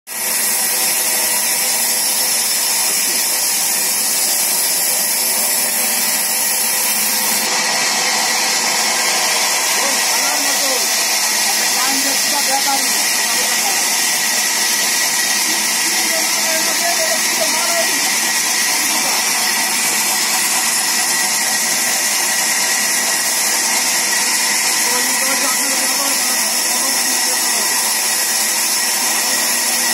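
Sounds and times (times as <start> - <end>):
band saw whining: 0.1 - 29.9.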